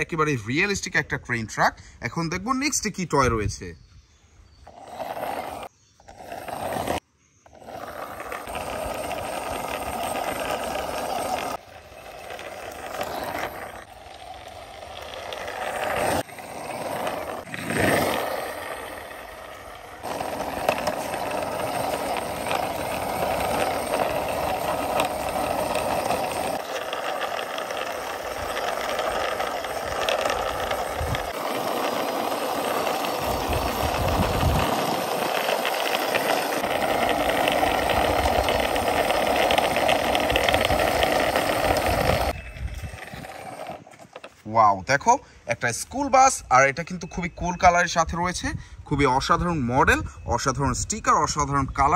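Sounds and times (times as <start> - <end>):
plastic toy wheels rolling on concrete: 4.4 - 48.4.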